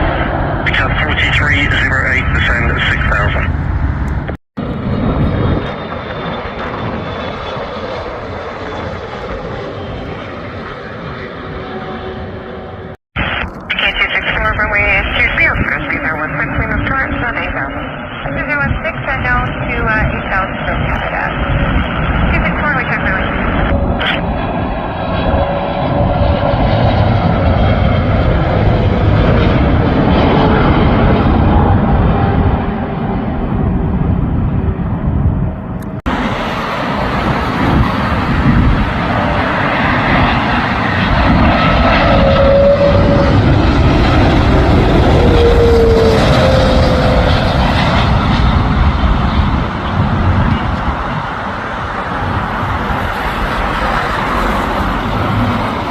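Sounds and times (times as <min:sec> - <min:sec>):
jet airliner engine noise: 0:00.0 - 0:55.9.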